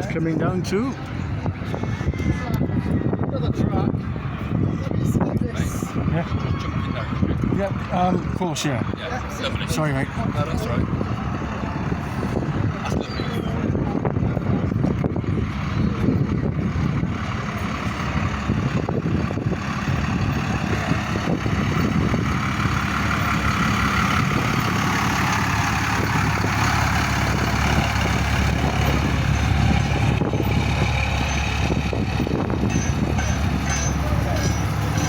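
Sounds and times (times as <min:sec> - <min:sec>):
large vehicle engine rumbling: 0:00.0 - 0:35.0.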